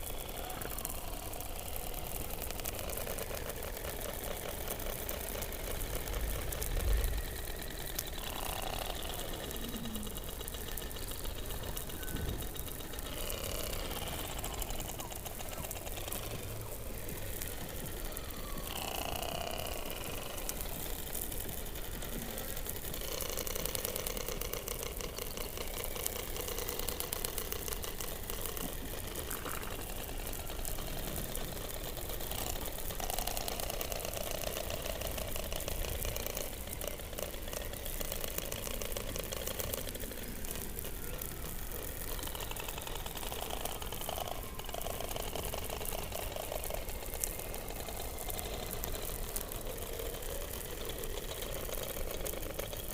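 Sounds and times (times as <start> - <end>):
drawn-out tonal calls: 0.0 - 52.9
rapid pulsing rattle underwater: 0.0 - 52.9.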